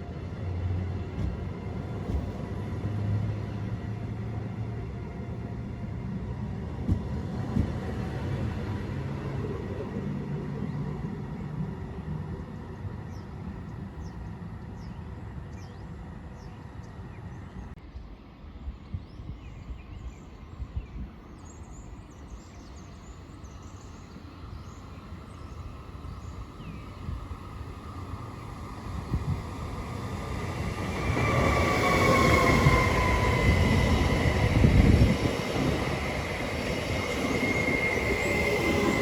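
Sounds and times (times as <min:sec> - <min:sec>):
train approaching: 0:00.0 - 0:18.8, 0:22.2 - 0:39.0.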